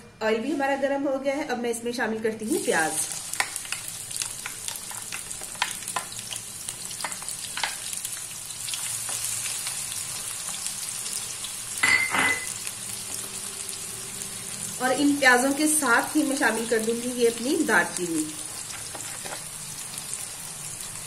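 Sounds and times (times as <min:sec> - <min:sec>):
onions sizzling in hot oil: 0:02.4 - 0:21.0.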